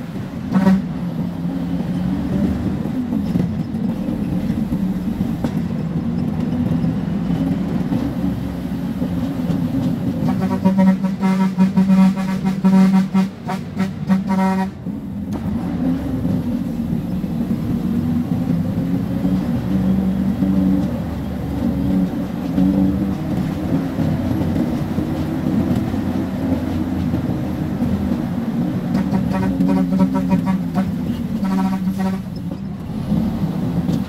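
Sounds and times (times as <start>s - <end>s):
truck engine and road drone: 0.0s - 34.0s.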